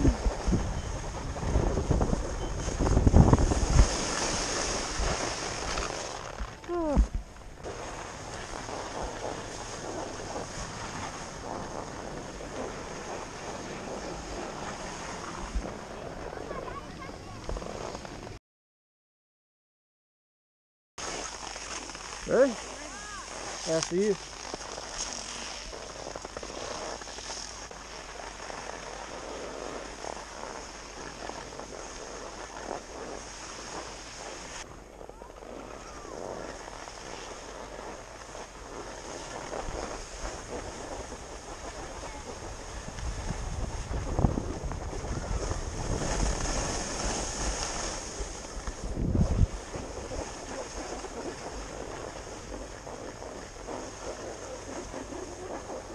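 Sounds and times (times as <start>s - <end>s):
skis sliding over snow: 0.0s - 18.3s, 21.0s - 55.9s
wind rushing over microphone: 0.0s - 18.4s, 28.4s - 55.9s.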